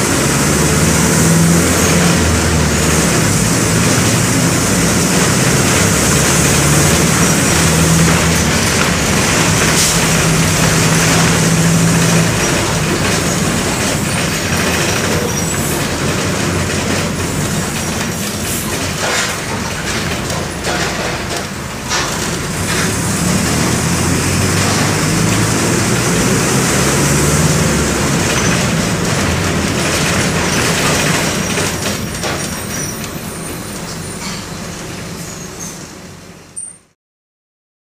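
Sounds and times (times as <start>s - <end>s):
bus diesel engine running: 0.0s - 36.6s
knocks and rattles: 0.5s - 34.5s.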